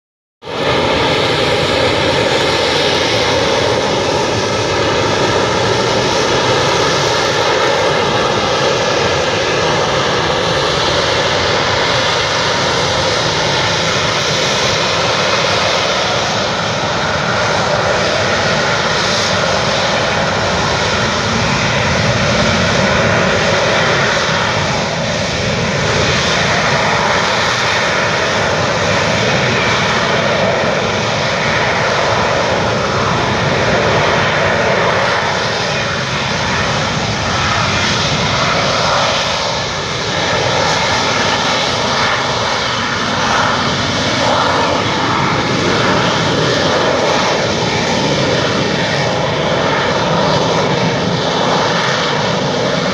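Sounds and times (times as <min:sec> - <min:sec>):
jet engine roaring: 0:00.4 - 0:52.9.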